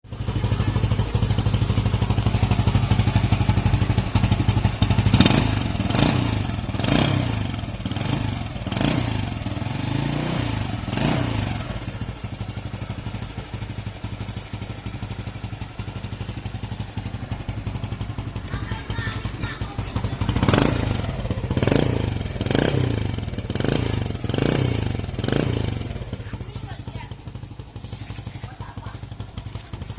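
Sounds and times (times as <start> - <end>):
motorcycle engine idling and revving: 0.0 - 29.9.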